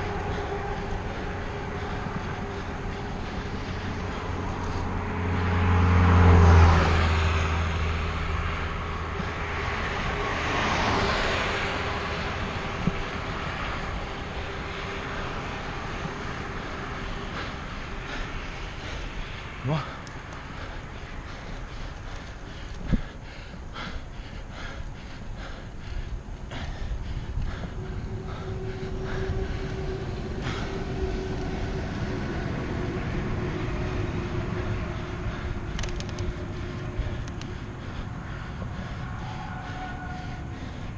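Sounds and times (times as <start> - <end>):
bicycle rolling rumble: 0.0 - 40.9
vehicle passing by: 0.0 - 40.9.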